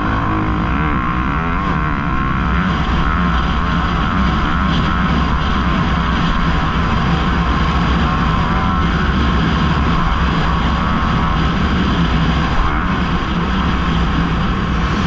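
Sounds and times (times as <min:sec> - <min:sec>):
motocross bike engine racing: 0:00.0 - 0:15.0.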